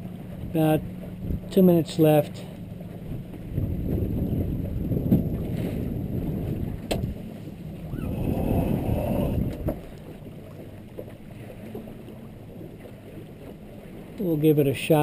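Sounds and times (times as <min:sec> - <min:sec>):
wind and water rushing along hull: 0:00.0 - 0:15.0.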